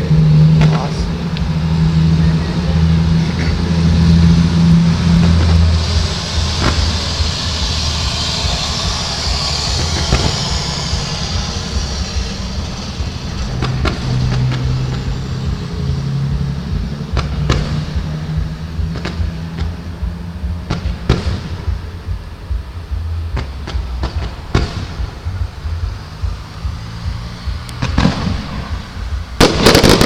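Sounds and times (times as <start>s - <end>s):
low drone: 0.0s - 30.0s
firework hissing rush: 0.7s - 19.8s, 23.8s - 30.0s
firework bangs: 3.2s - 20.0s, 20.6s - 22.1s, 23.3s - 25.9s, 26.5s - 30.0s.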